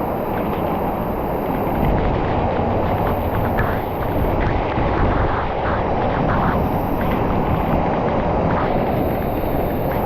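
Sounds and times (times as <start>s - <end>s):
rushing water roar: 0.0s - 10.0s.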